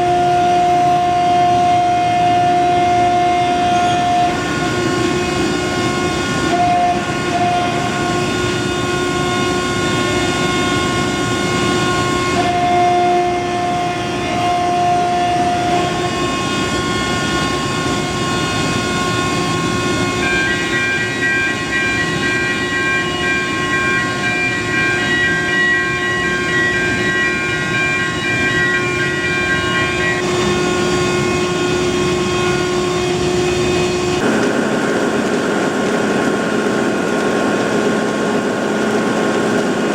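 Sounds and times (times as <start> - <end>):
industrial machinery noise: 0.0 - 39.9
sustained machine tones: 0.0 - 39.9.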